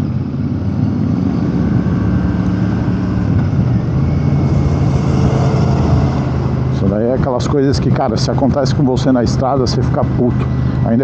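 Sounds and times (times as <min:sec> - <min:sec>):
steady rush of noise: 0:00.0 - 0:11.0.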